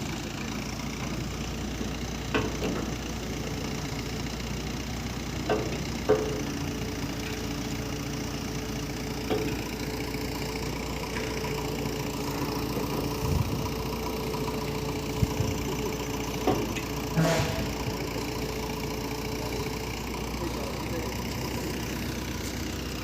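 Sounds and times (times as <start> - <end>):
heavy machine engine idling: 0.0 - 23.0.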